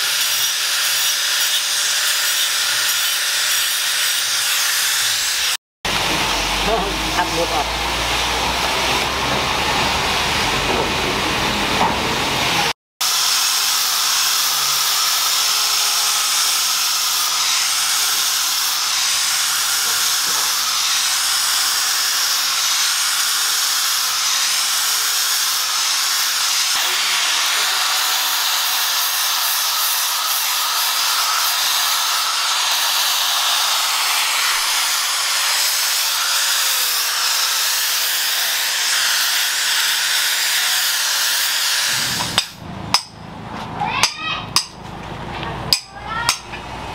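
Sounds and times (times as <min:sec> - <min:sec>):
angle grinder grinding stone: 0:00.0 - 0:09.3, 0:13.1 - 0:43.1.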